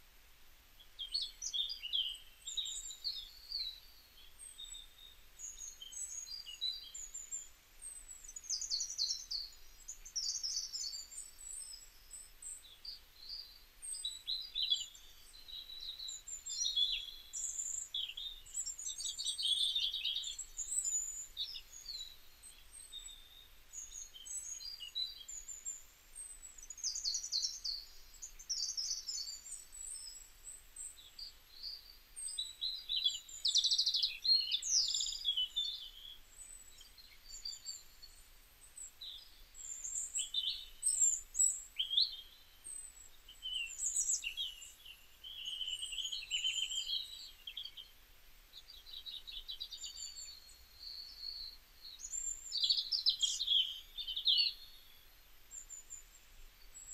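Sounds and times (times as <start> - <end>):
birds chirping and trilling: 8.3 - 38.2, 38.8 - 56.9.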